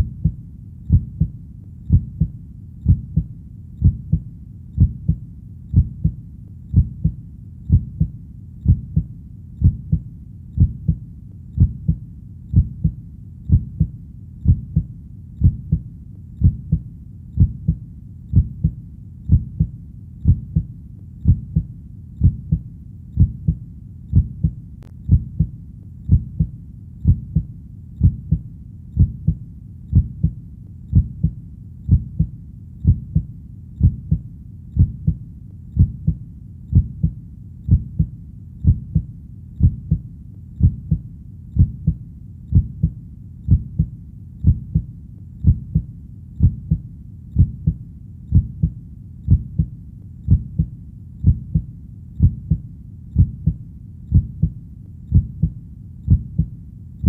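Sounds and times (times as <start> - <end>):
heartbeat: 0.0 - 57.0.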